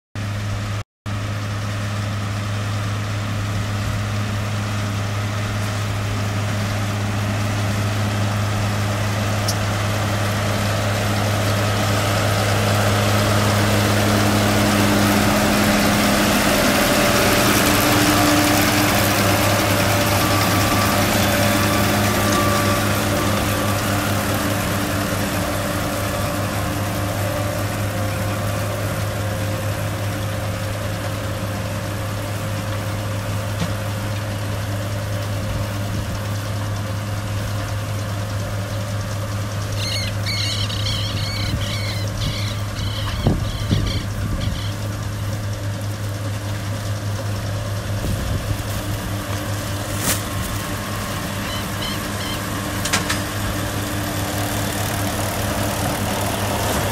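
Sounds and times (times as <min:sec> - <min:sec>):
tractor diesel engine humming: 0:00.2 - 0:56.9.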